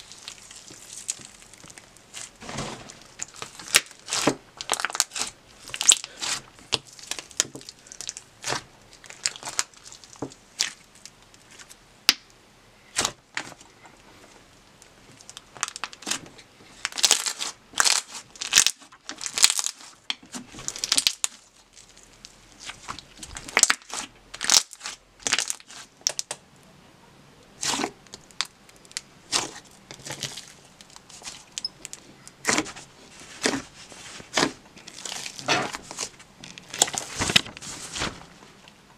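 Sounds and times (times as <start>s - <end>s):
slime squelching: 0.0s - 26.3s, 27.6s - 38.7s.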